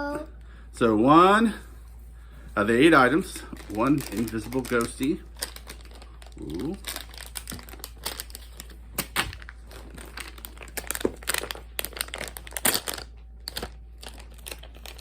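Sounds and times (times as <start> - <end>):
plastic packaging crinkling and tearing: 2.9 - 15.0.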